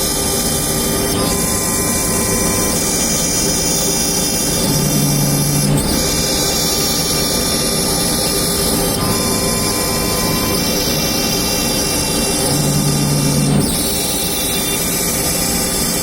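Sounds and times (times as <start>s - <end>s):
high-pitched spindle whine: 0.0s - 16.0s
router cutting wood: 0.0s - 16.0s.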